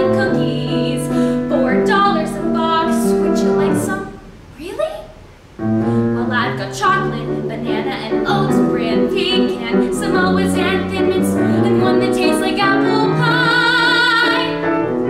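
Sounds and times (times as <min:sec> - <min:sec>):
grand piano accompaniment: 0:00.0 - 0:04.5, 0:05.5 - 0:15.0
woman singing: 0:00.0 - 0:04.9, 0:06.2 - 0:14.8.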